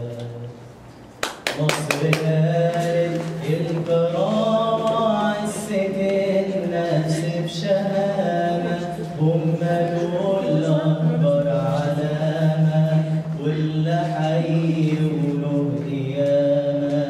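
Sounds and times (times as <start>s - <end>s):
man chanting recitation: 0.0s - 0.6s, 1.5s - 17.0s.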